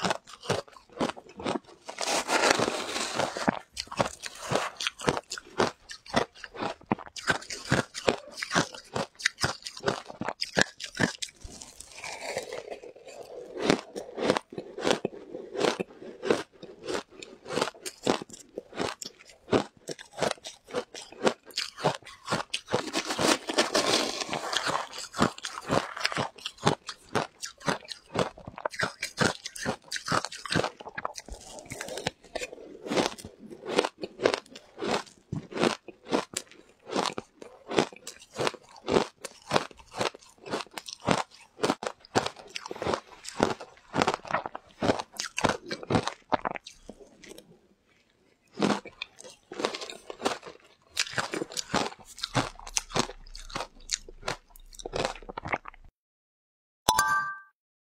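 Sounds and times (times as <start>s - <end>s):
crunching and chewing shaved ice: 0.0s - 55.9s.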